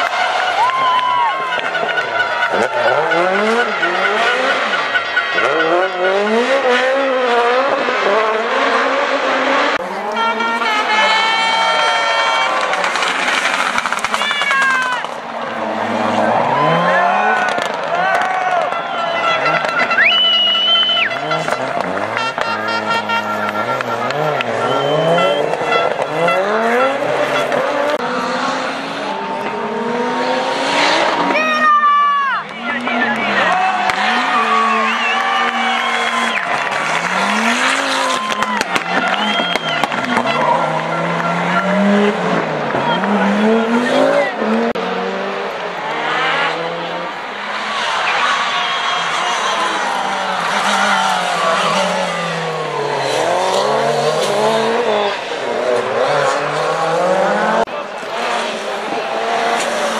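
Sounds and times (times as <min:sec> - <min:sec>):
tyres skidding: 0:00.0 - 0:59.9
car engine revving hard: 0:01.5 - 0:14.2, 0:15.1 - 0:18.4, 0:19.2 - 0:31.8, 0:32.5 - 0:59.9.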